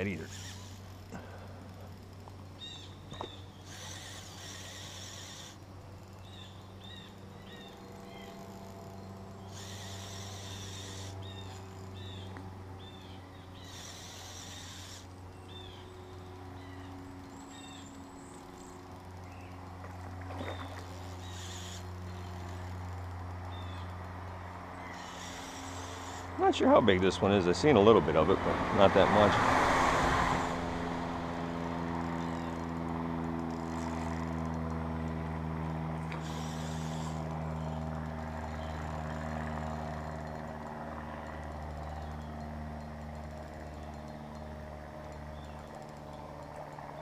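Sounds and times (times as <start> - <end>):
small birds chirping: 0.0 - 28.3, 32.0 - 47.0
low hum: 0.0 - 47.0.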